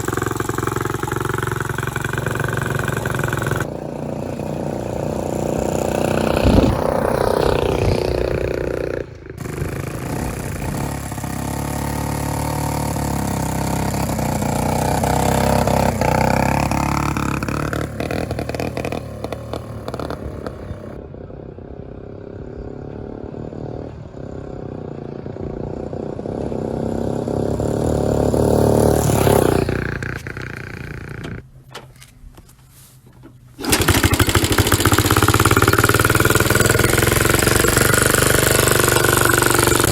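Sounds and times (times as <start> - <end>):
motorcycle engine revving: 0.0 - 31.5, 33.6 - 39.9.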